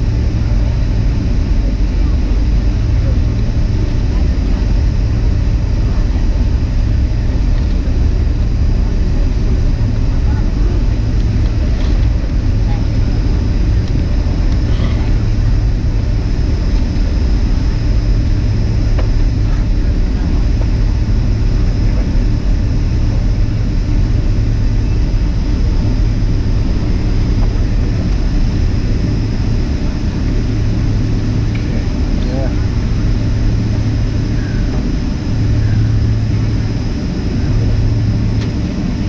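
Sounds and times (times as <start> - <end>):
jet engine drone in cabin: 0.0 - 39.0.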